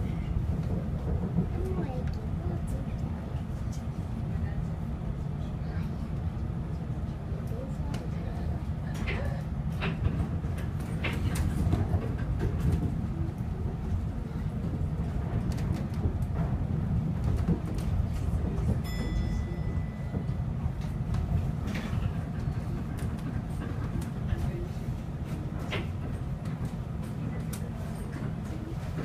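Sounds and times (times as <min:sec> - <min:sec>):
monorail car rumbling: 0:00.0 - 0:29.0.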